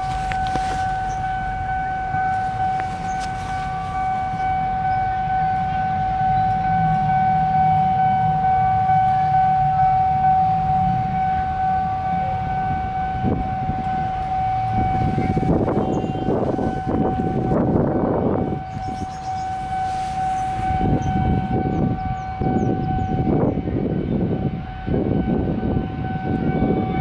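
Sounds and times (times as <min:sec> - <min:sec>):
constant high whine: 0:00.0 - 0:27.0
locomotive engine rumble: 0:00.0 - 0:27.0.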